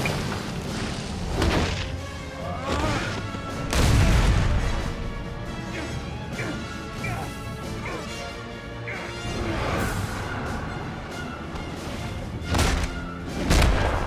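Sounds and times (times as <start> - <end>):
orchestral score: 0.0 - 14.0.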